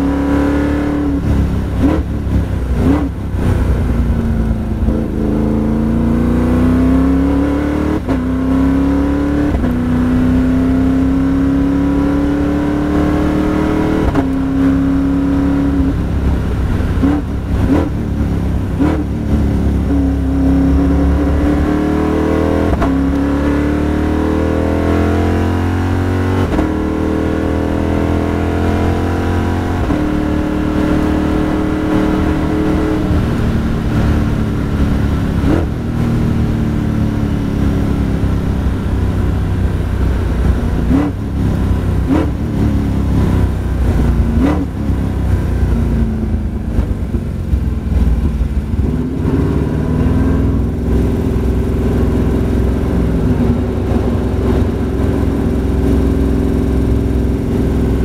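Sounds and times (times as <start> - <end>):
race car engine from cockpit: 0.0 - 58.0.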